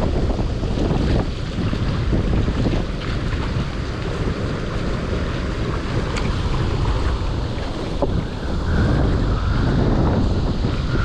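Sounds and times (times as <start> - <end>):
water washing against rocks: 0.0 - 9.3
wind buffeting microphone: 0.0 - 11.0.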